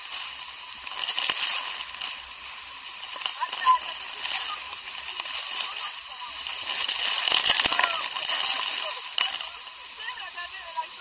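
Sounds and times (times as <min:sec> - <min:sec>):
water splashing and sloshing: 0:00.0 - 0:11.0
waterfall rushing: 0:00.0 - 0:11.0.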